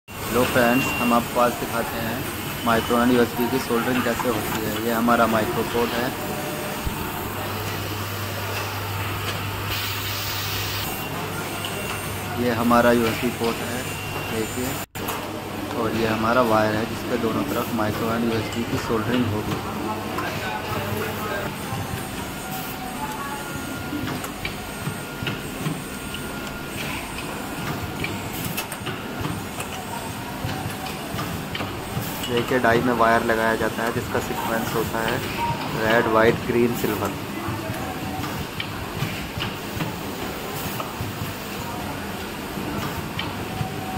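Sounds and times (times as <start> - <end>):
factory machinery hum: 0.1 - 43.9.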